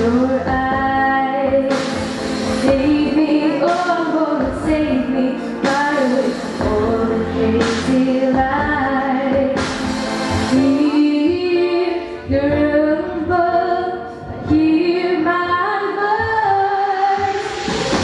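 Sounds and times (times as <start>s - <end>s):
girl singing into a microphone: 0.0s - 1.8s, 2.6s - 9.6s, 10.5s - 17.5s
recorded instrumental accompaniment: 0.0s - 18.0s.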